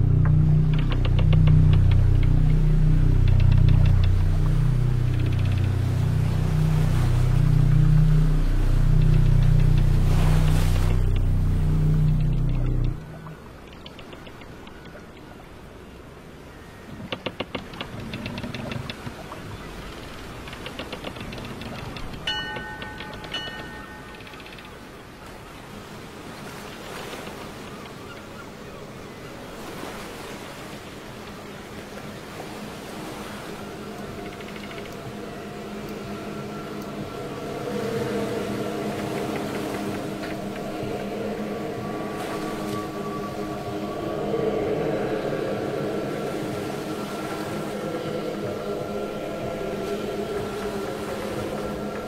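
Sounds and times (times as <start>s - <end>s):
dark ambient drone: 0.0s - 25.3s, 31.0s - 52.0s
waves washing: 0.0s - 52.0s
wind: 0.0s - 52.0s.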